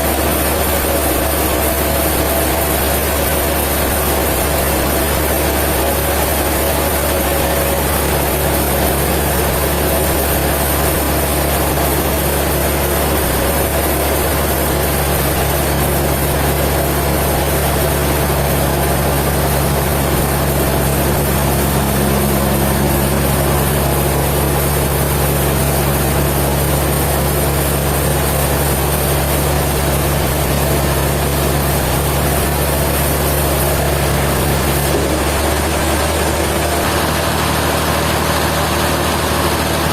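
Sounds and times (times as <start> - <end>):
heavy machinery humming: 0.0 - 39.9.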